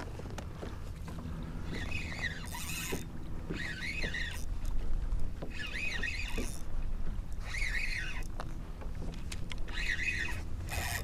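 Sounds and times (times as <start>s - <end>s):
reel drag buzzing: 0.0s - 11.0s
water: 0.0s - 11.0s
reel handle cranking: 1.5s - 11.0s.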